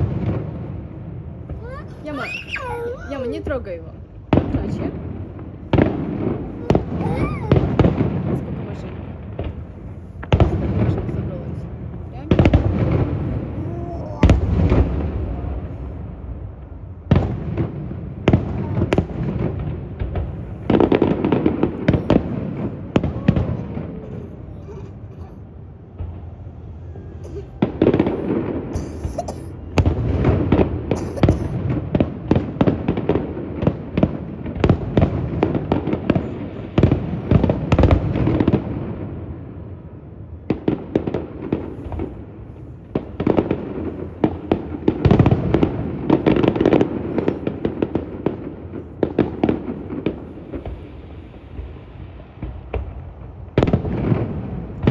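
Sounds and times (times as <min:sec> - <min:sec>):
fireworks bangs and crackling pops: 0:00.0 - 0:26.2, 0:27.2 - 0:54.9.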